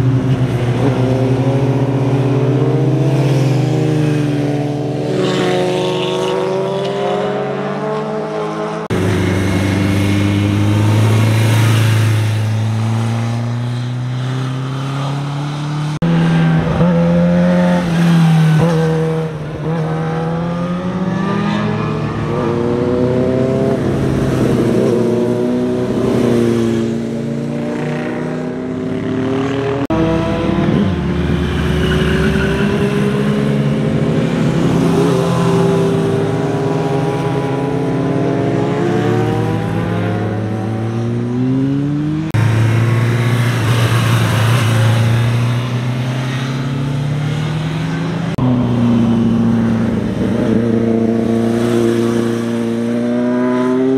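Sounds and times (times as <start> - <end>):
motorcycle engines revving: 0.0 - 53.9.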